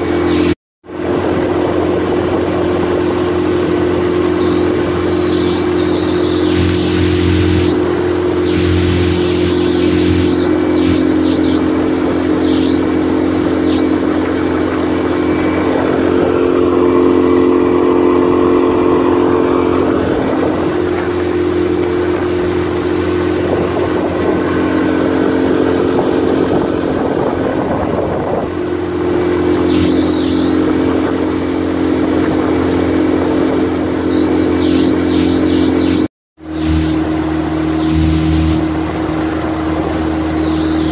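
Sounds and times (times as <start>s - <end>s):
outboard engine running: 0.0s - 40.9s
rushing noise: 0.0s - 40.9s.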